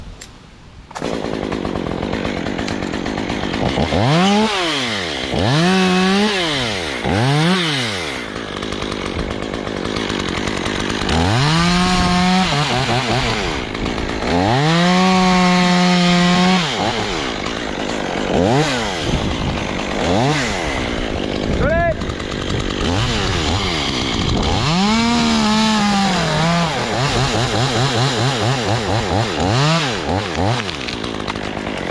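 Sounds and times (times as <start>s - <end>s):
chainsaw idling and revving: 0.9s - 31.9s.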